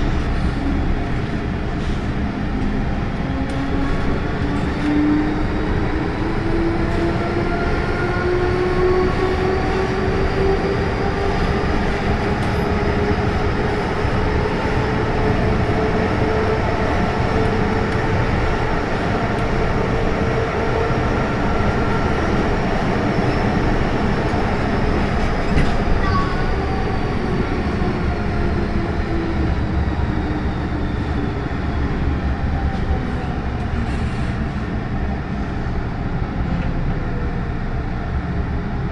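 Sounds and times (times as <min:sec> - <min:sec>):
wheels rumbling on track: 0:00.0 - 0:38.9.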